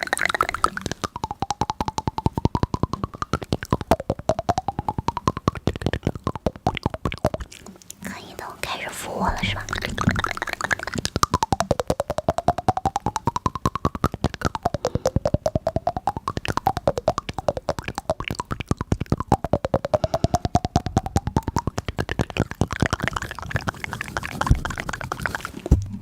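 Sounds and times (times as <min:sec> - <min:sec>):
dipping gliding tone: 0:00.0 - 0:26.0
fast even ticking: 0:00.0 - 0:26.0.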